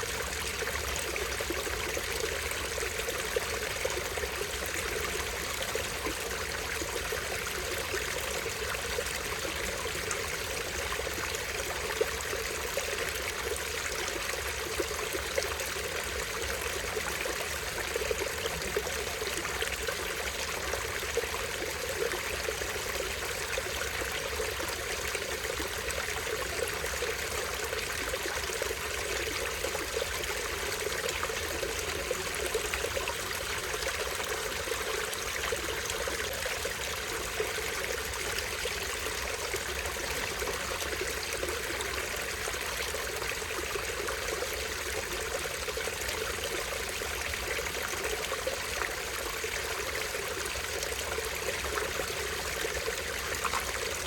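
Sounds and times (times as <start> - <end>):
stream splashing over small waterfall: 0.0 - 54.0.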